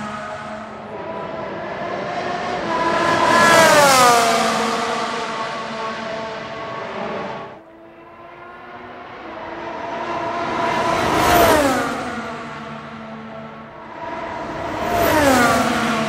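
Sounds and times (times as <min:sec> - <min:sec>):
race car driving past: 0:00.0 - 0:16.0
race car engine approaching: 0:00.0 - 0:16.0.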